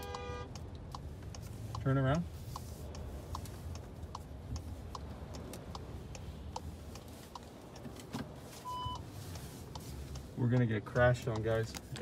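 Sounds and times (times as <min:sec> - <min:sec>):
indicator ticking: 0:00.0 - 0:08.0, 0:08.6 - 0:12.0
wind and road noise: 0:00.0 - 0:12.0.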